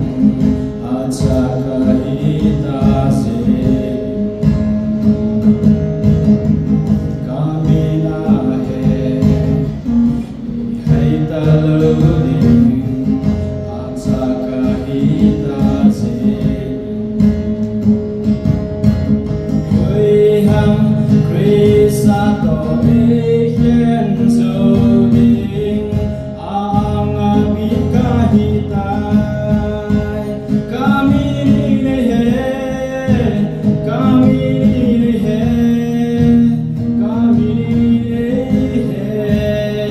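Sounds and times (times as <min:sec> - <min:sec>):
voices singing a hymn: 0:00.0 - 0:04.5, 0:07.2 - 0:17.8, 0:19.8 - 0:39.9
acoustic guitar strumming: 0:00.0 - 0:39.9.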